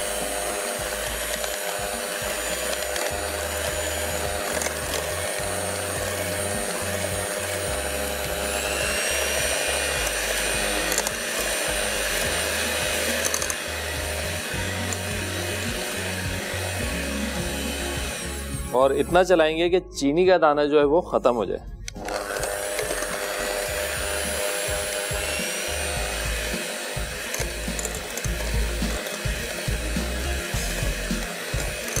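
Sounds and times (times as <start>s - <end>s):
electric hand mixer whisking: 0.0s - 19.4s, 21.9s - 32.0s.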